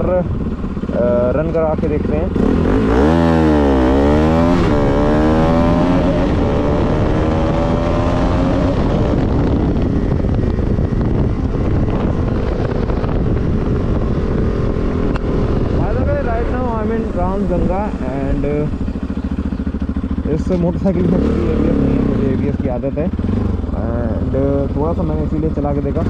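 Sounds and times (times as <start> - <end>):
motorcycle engine accelerating: 0.0 - 26.0
wind rushing over microphone: 0.0 - 26.0.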